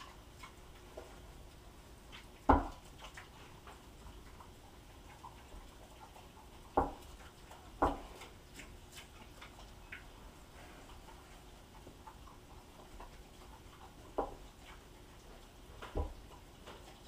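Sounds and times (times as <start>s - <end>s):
pigs eating with smacking: 0.0s - 17.0s.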